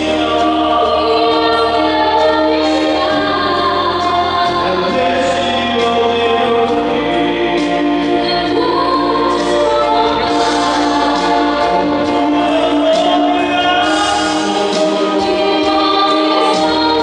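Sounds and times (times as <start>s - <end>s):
man and woman singing duet: 0.0s - 17.0s.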